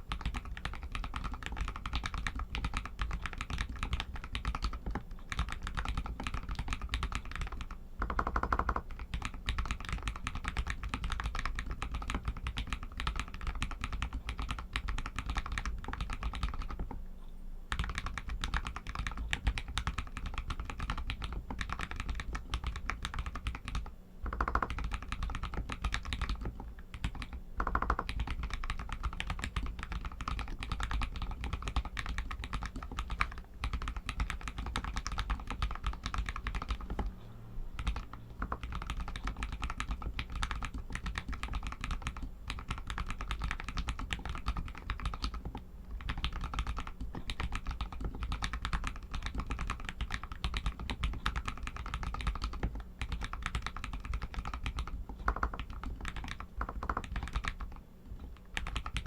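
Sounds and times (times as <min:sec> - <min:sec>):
mechanical keyboard typing: 0:00.0 - 0:17.0, 0:17.7 - 0:37.2, 0:37.8 - 0:59.0.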